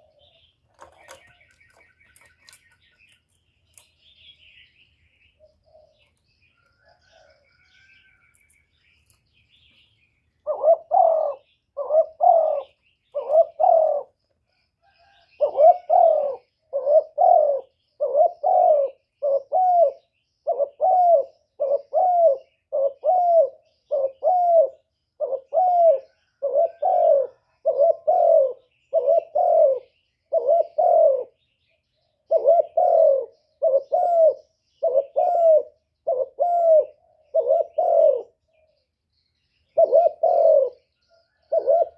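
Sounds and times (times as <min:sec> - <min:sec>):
dove cooing: 0:00.0 - 0:02.7, 0:05.4 - 0:08.5, 0:10.4 - 0:31.4, 0:32.1 - 0:38.8, 0:39.7 - 0:41.9
faint small bird chirps: 0:00.0 - 0:41.9.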